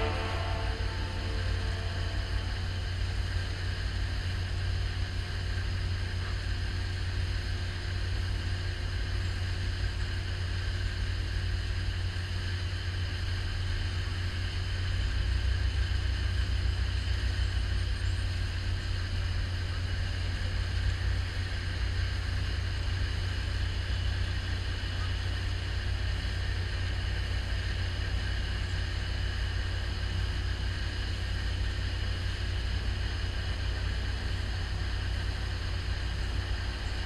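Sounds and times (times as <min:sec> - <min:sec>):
diesel engines rumbling: 0:00.0 - 0:37.0.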